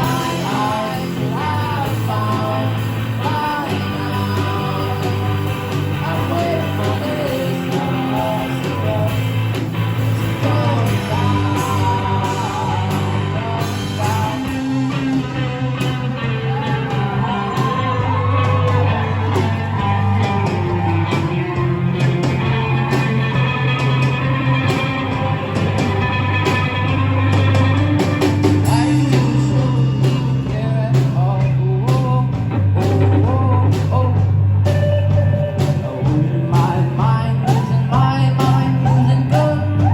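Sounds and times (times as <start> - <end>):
person singing: 0.0 - 9.7, 10.3 - 25.8, 28.0 - 39.9
guitar: 0.0 - 39.9
held bass notes: 0.0 - 39.9.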